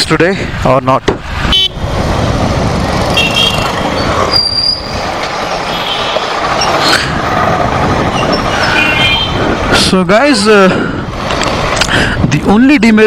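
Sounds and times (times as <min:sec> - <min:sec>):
motorcycle riding rumble: 0:00.0 - 0:13.0.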